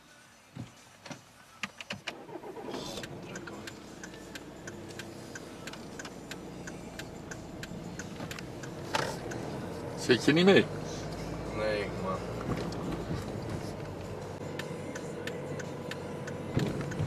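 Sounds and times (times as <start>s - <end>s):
car engine starting and running: 1.9s - 17.0s
turn signal ticking: 2.1s - 17.0s.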